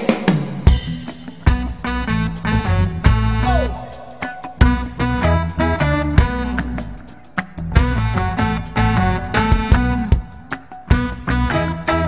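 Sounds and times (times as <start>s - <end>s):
live reggae band playing: 0.0s - 12.0s.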